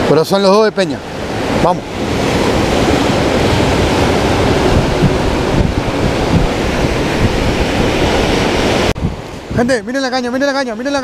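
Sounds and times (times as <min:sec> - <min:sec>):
ocean surf breaking on rocks: 0:00.0 - 0:11.0
wind buffeting microphone: 0:00.9 - 0:11.0.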